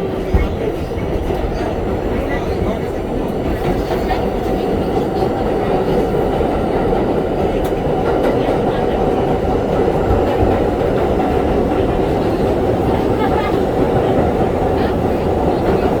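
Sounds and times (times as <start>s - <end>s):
clickety-clack over rail joints: 0.0s - 16.0s
train wheels rumbling on rails: 0.0s - 16.0s.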